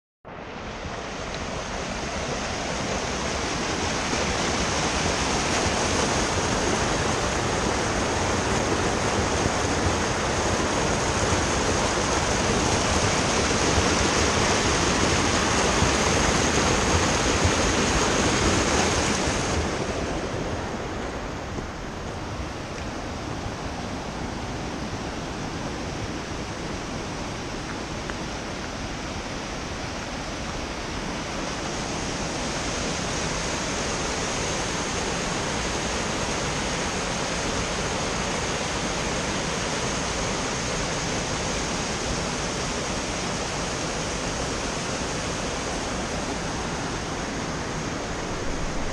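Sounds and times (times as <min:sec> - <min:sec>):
creek water rushing over bedrock: 0:00.3 - 0:48.9.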